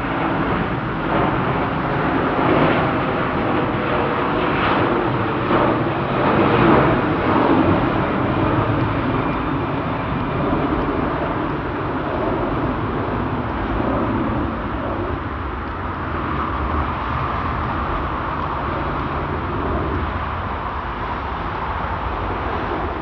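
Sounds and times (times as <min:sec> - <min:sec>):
jet airliner taking off: 0:00.0 - 0:23.0.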